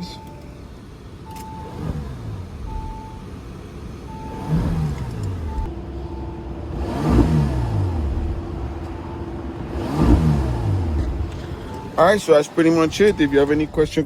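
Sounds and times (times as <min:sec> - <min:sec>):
car engine revving from idle: 0:01.6 - 0:13.8.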